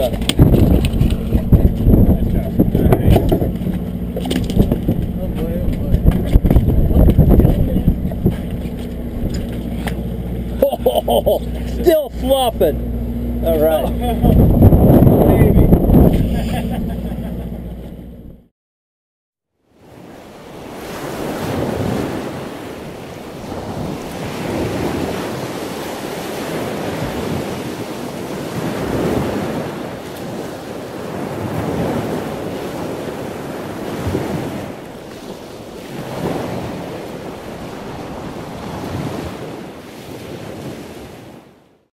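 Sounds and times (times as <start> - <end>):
wind rumbling on microphone: 0.0 - 10.6, 12.8 - 18.4, 19.8 - 41.6
ocean surf washing: 0.0 - 18.1, 19.7 - 41.8.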